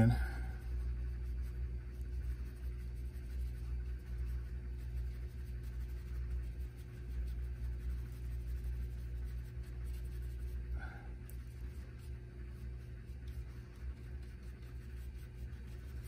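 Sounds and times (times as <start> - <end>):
low hum: 0.0 - 16.0
paintbrush scratching: 0.5 - 16.0.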